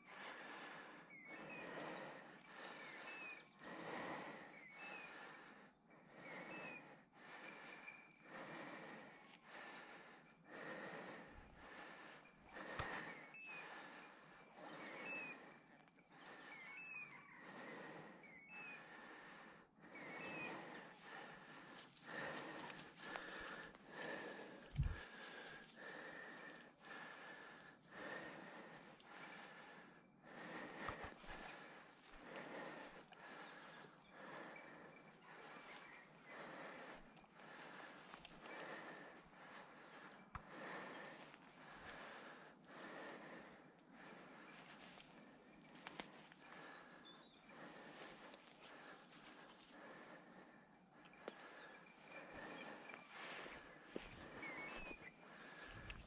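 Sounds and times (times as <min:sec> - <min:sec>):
person breathing: 0:00.0 - 0:56.0.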